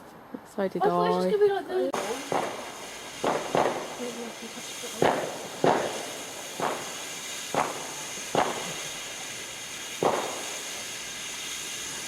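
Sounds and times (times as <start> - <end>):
steady hiss: 0.8 - 12.0
fireworks bangs: 1.3 - 12.0.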